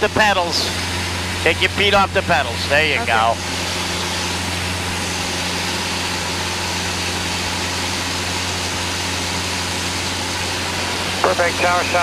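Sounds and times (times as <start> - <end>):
airplane engine droning in cabin: 0.0 - 12.0.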